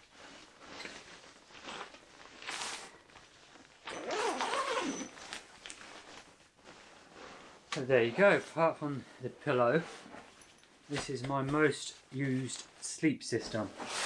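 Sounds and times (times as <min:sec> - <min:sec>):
fabric rustling: 0:00.0 - 0:12.8.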